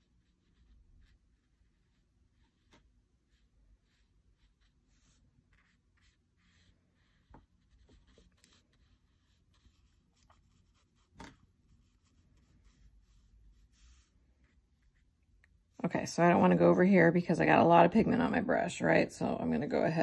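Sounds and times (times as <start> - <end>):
brush strokes on paper: 0.0 - 16.3.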